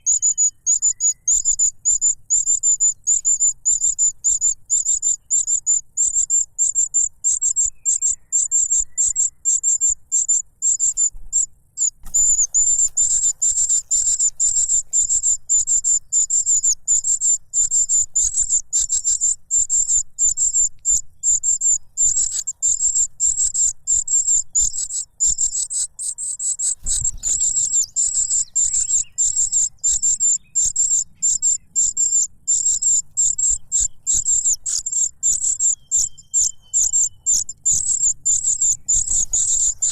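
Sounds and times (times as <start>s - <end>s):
cuckoo chick begging calls: 0.0s - 39.9s.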